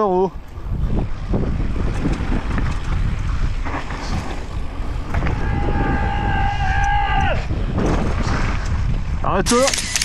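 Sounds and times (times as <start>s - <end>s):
wind buffeting microphone: 0.0s - 10.0s
bike clicking and rattling: 0.4s - 10.0s.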